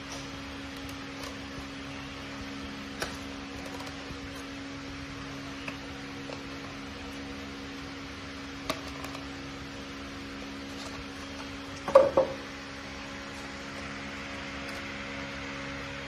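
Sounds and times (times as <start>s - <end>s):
indoor hum and hiss: 0.0s - 16.0s.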